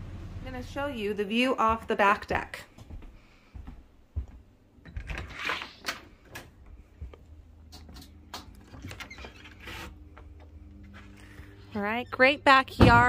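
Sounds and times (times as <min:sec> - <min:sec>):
low steady hum: 0:00.0 - 0:05.2, 0:06.1 - 0:13.0.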